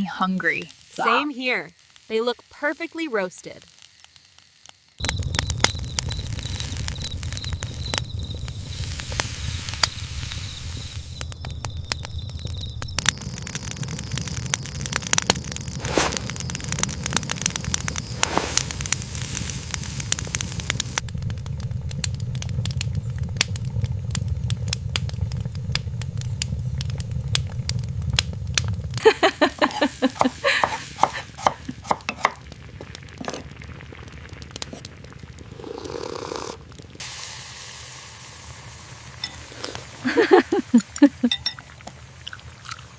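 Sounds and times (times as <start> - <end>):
campfire crackling and popping: 0.0 - 42.9
low fire rumble: 4.9 - 42.9.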